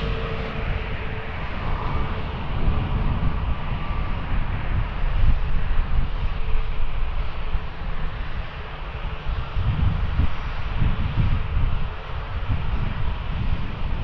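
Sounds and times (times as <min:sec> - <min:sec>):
jet airliner engines rumbling: 0:00.0 - 0:14.0.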